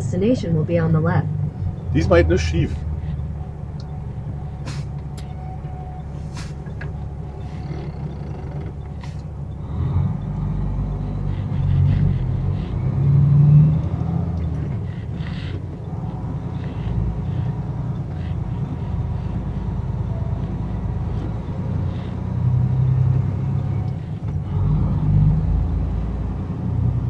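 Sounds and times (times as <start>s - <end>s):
diesel truck engine rumbling: 0.0s - 27.0s.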